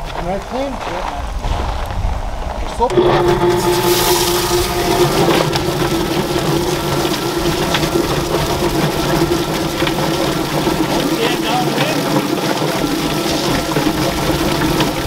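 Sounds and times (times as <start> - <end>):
electric motor humming: 2.9 - 15.0
hose spraying water: 2.9 - 15.0.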